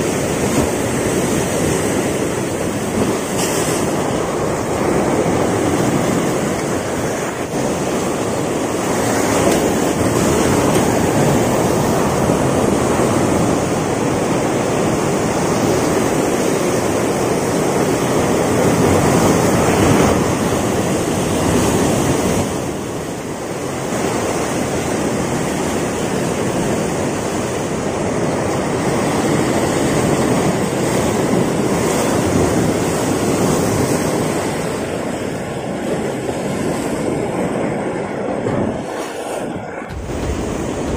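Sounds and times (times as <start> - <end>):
surf breaking around rocks: 0.0 - 40.9.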